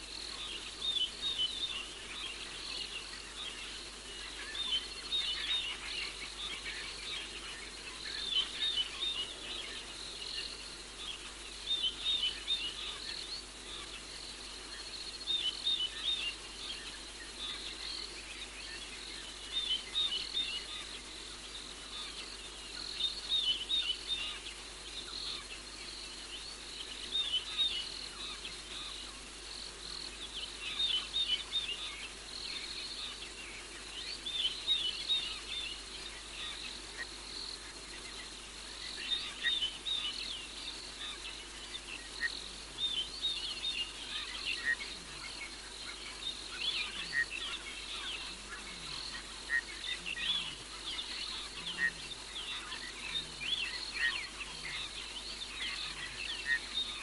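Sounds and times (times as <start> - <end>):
insects chirping and trilling: 0.0 - 57.0.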